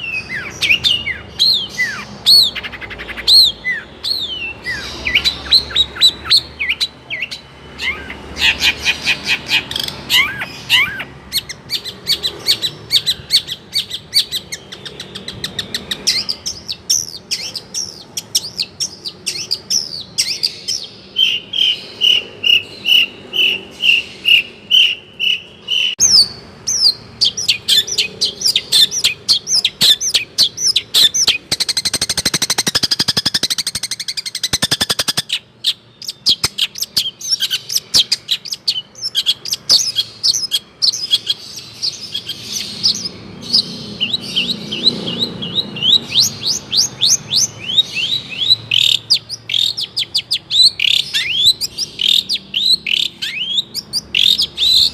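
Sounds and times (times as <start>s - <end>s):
rapid buzzy bird trill: 0.0s - 54.9s
repeated clear bird notes: 0.0s - 54.9s
shrike singing varied song: 0.0s - 54.9s.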